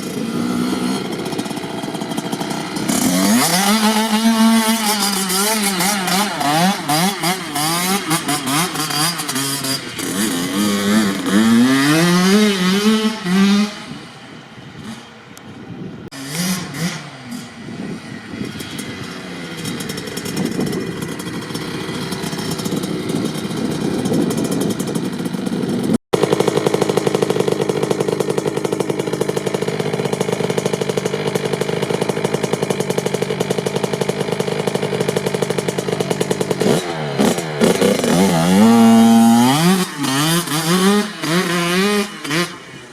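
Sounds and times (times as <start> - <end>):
two-stroke engine revving: 0.0 - 15.2, 16.0 - 42.9.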